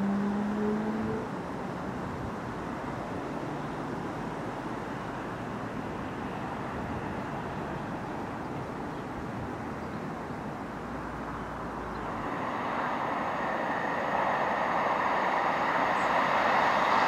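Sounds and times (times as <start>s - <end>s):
distant train engine and wheel rumble: 0.0s - 17.0s.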